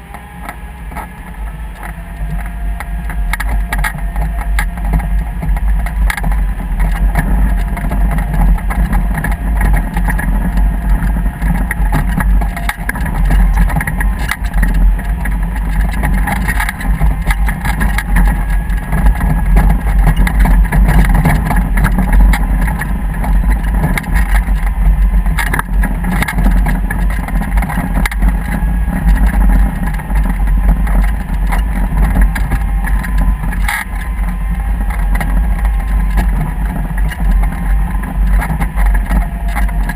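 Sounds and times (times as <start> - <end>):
engine low rumble: 0.0 - 39.9
faint steady whine: 0.0 - 39.9.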